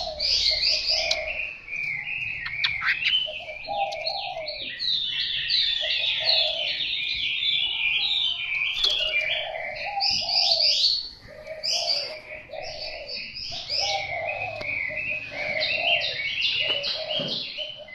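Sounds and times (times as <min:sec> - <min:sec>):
bird singing sweeping chirps: 0:00.0 - 0:17.9
lower bird notes: 0:00.0 - 0:17.9.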